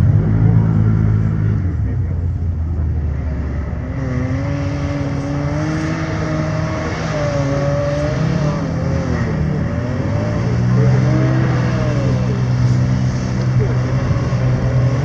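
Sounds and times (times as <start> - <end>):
engine revving unevenly: 0.0 - 15.0.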